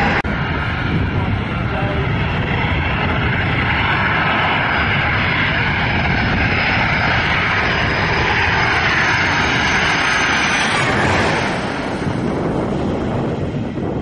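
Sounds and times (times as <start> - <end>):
jet engines passing overhead: 0.0 - 14.0
thin high engine whine: 0.0 - 14.0.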